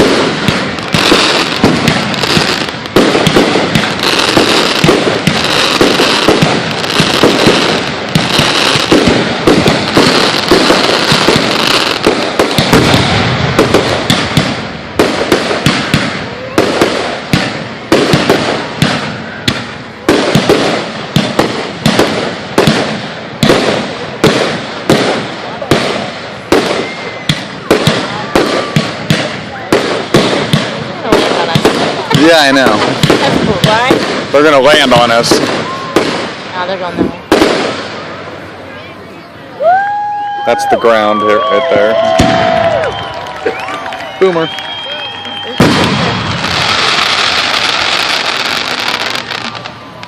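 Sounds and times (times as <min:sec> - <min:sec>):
fireworks booms: 0:00.0 - 0:38.8, 0:41.4 - 0:43.9, 0:44.5 - 0:50.0
fireworks bursting and crackling: 0:00.0 - 0:50.0.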